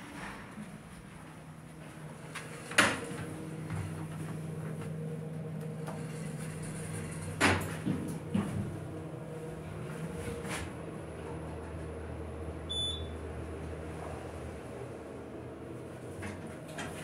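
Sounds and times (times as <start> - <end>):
elevator hum: 0.0 - 17.0.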